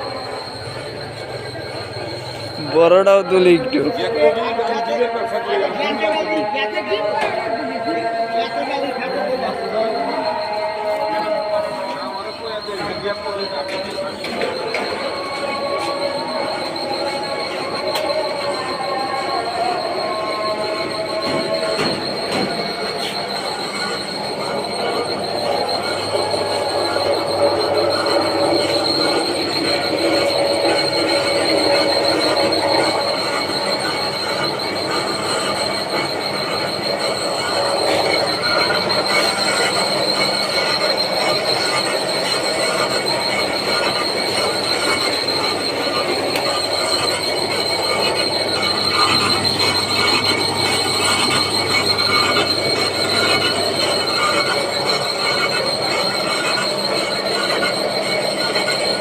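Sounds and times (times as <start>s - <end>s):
machinery high-pitched whine: 0.0s - 59.0s
machinery low hum: 0.0s - 59.0s.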